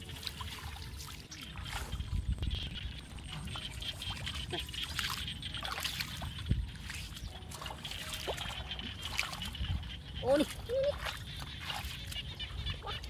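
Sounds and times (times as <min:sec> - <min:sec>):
shallow water splashing: 0:00.0 - 0:13.0.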